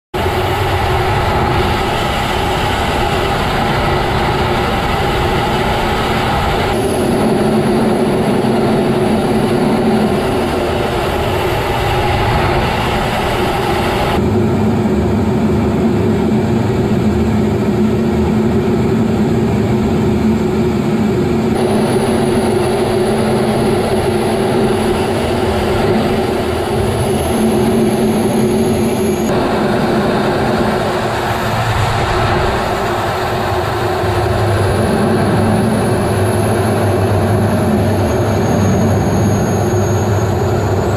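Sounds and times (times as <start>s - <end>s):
jet cockpit engine and airflow noise: 0.1s - 40.9s
steady humming tones: 0.2s - 40.9s.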